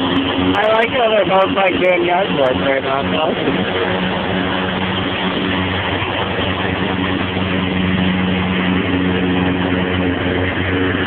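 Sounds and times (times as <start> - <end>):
string trimmer cutting grass: 0.0 - 11.0.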